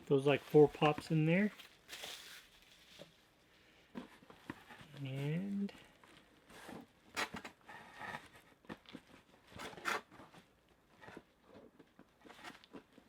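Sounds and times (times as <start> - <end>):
packaging scraping and rustling: 0.4 - 3.4, 4.0 - 13.0.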